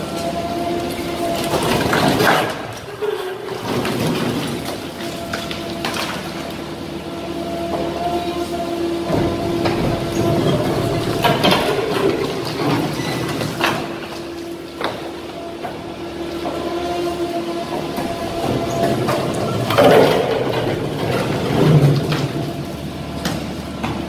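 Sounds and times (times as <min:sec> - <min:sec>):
hydraulic machine whining: 0:00.0 - 0:24.0.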